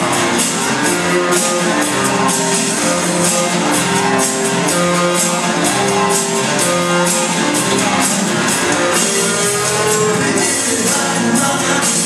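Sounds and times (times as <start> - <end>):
guitar-led dance music: 0.0 - 12.0.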